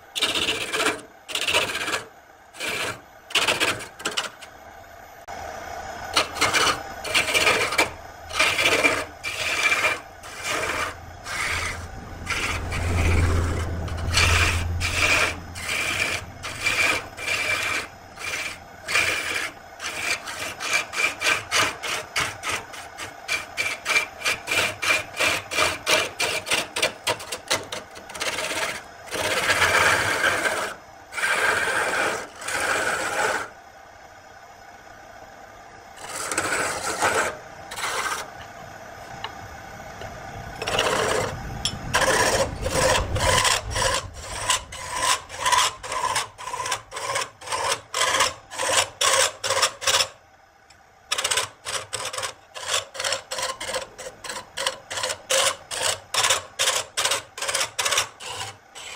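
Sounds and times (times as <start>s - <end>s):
gouge cutting wood on a lathe: 0.1s - 4.5s, 6.1s - 33.5s, 36.0s - 38.4s, 40.6s - 50.2s, 51.1s - 58.9s.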